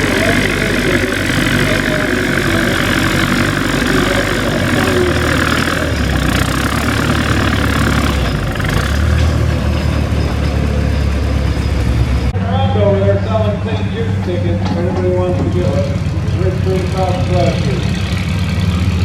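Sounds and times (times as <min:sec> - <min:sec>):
outdoor din: 0:00.0 - 0:18.6
tractor engine running: 0:00.0 - 0:19.0.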